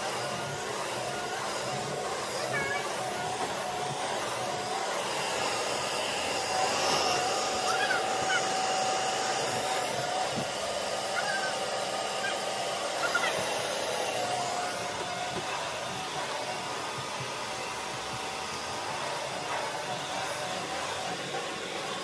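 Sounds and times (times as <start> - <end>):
upright vacuum cleaner running: 0.0 - 22.0.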